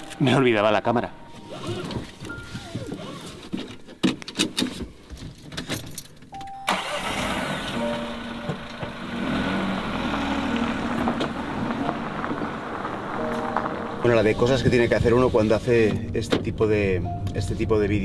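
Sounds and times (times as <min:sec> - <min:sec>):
van engine starting and running: 0:00.0 - 0:04.9, 0:05.5 - 0:18.0.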